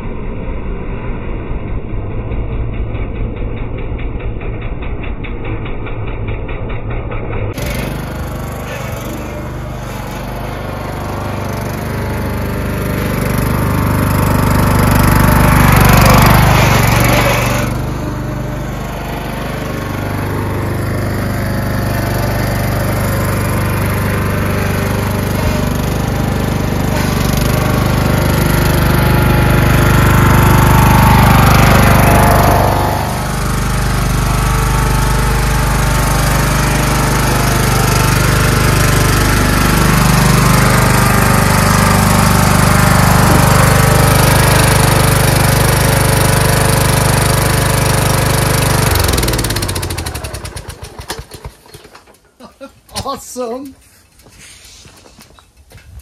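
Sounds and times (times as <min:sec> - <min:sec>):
lawn tractor engine running: 0:06.9 - 0:56.0.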